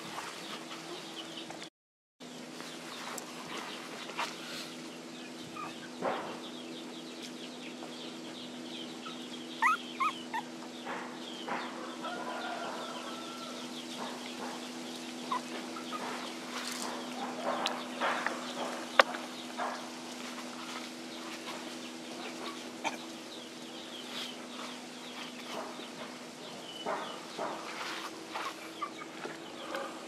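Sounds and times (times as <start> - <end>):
chickens clucking: 2.9 - 30.0.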